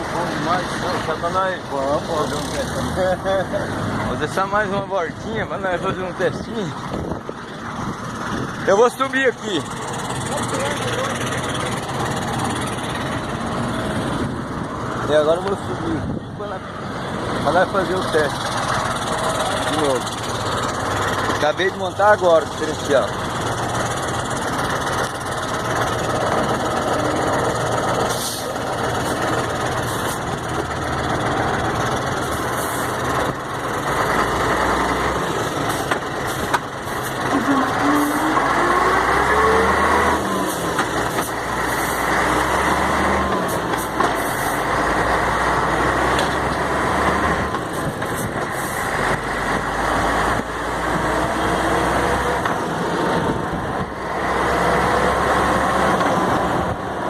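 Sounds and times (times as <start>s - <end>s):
truck diesel engine revving: 0.0s - 57.0s.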